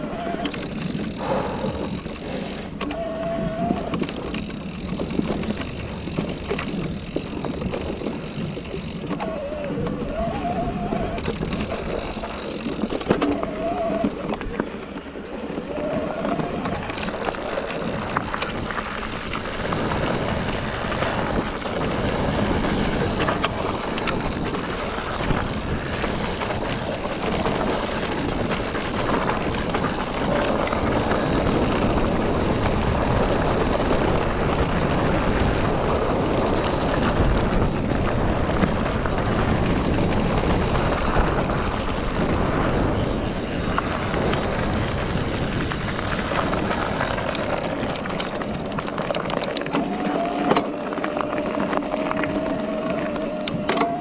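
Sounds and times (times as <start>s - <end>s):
bike rattling and knocking: 0.0s - 54.0s
tyre and wind noise: 0.0s - 54.0s.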